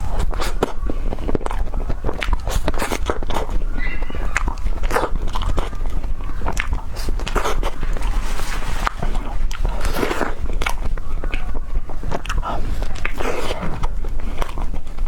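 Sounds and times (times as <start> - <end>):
crunchy ice cream being chewed: 0.0 - 15.0.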